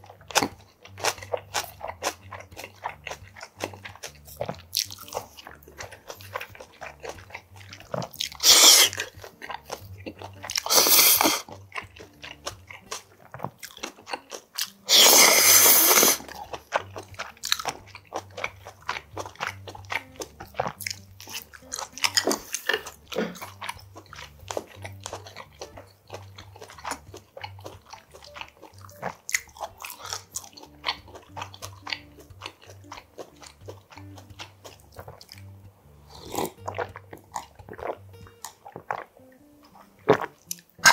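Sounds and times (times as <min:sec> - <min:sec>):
noodle slurps: 0:00.0 - 0:35.3, 0:39.8 - 0:40.9
chewing and crunching: 0:00.0 - 0:40.9.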